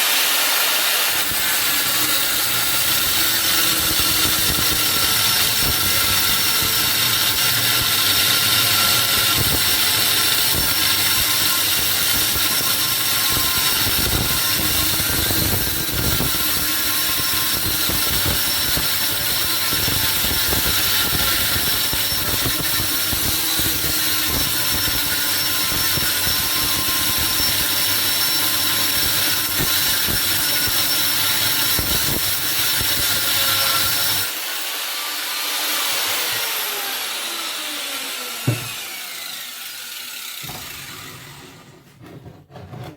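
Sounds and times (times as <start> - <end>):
power tool whining on metal: 0.0 - 42.1.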